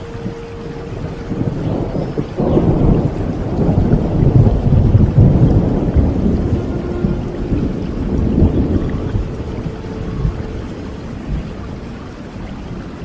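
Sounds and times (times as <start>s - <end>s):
thunder rolling: 0.0s - 12.3s
steady rain: 0.0s - 13.0s.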